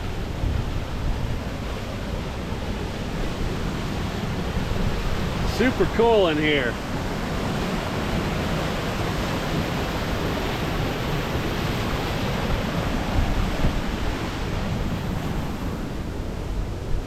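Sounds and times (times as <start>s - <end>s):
waterfall rushing: 1.4s - 16.0s.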